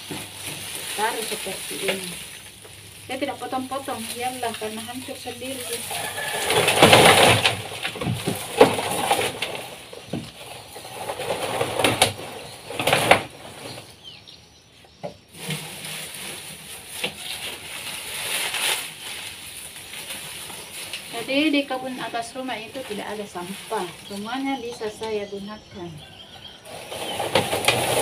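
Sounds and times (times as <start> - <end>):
dry garden waste crackling: 0.0 - 28.0.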